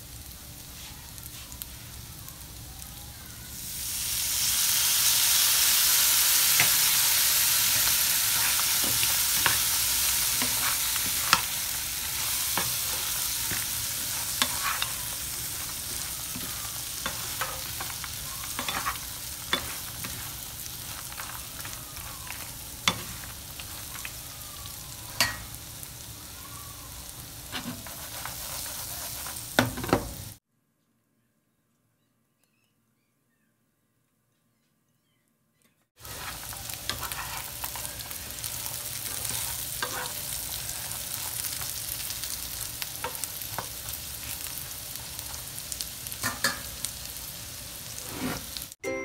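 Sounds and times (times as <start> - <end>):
tofu sizzling in oil: 3.4 - 30.4, 36.0 - 48.8.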